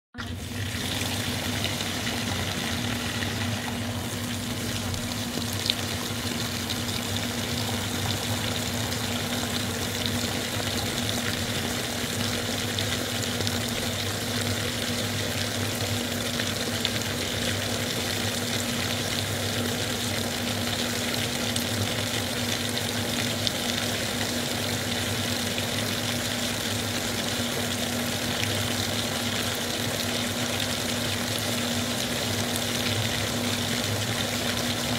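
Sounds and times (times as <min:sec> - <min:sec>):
steady hiss like running water: 0:00.2 - 0:34.9.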